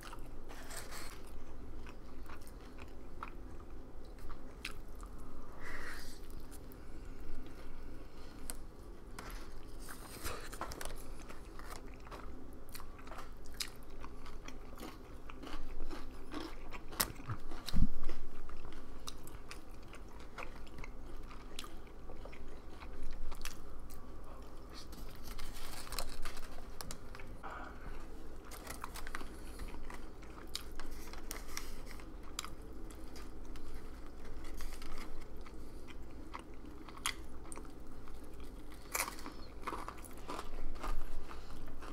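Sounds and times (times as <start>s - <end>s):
chewing and biting food: 0.0s - 5.2s, 9.2s - 27.3s, 28.0s - 41.9s.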